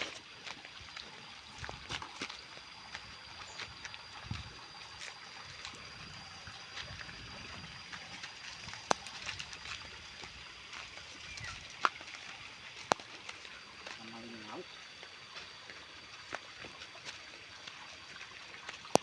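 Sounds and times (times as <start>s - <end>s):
steady high-pitched tone: 0.0s - 17.2s
faint water trickling: 0.0s - 19.0s.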